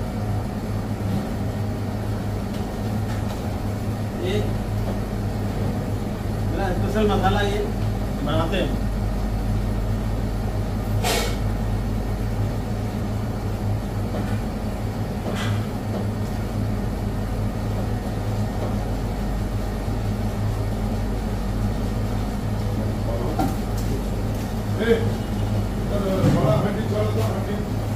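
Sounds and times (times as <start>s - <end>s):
kitchen machine hum: 0.0s - 27.9s.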